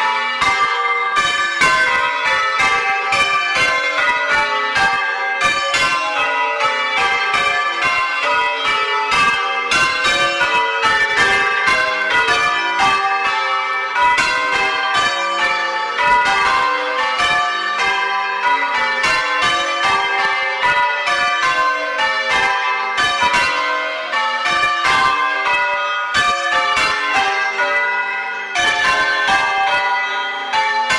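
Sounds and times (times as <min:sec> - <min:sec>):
church bells ringing: 0:00.0 - 0:30.9.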